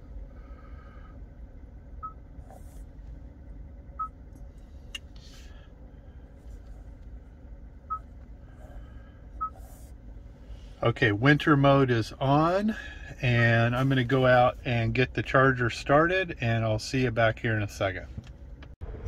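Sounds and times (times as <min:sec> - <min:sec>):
low in-car rumble: 0:00.0 - 0:19.0.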